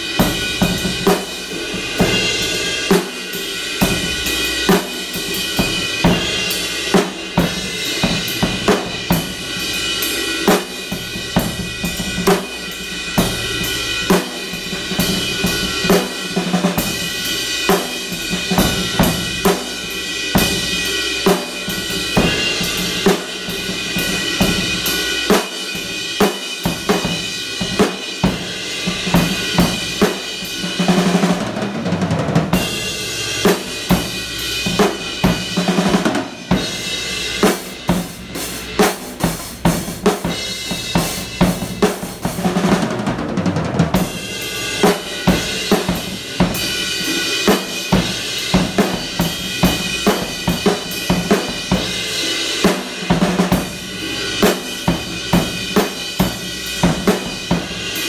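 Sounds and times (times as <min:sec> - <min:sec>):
drum kit beat: 0:00.0 - 0:58.0.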